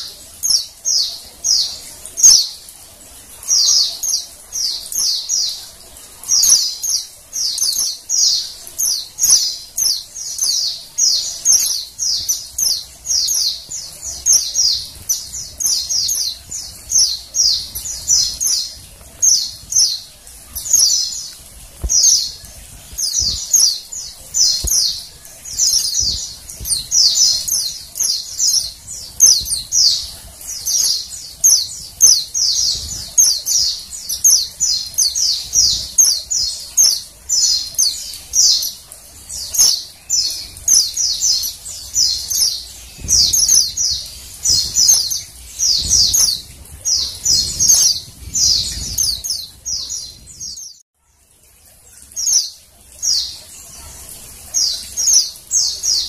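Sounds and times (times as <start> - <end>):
bird twittering chirps: 0.0 - 50.8.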